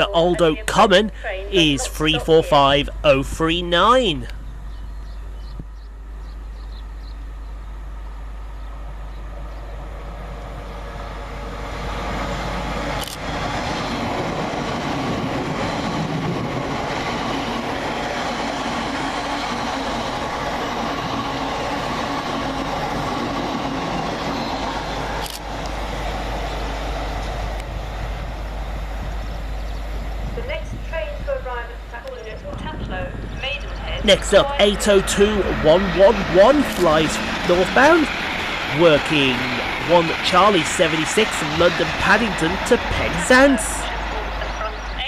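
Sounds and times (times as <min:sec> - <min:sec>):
electric train passing: 0:00.0 - 0:45.0.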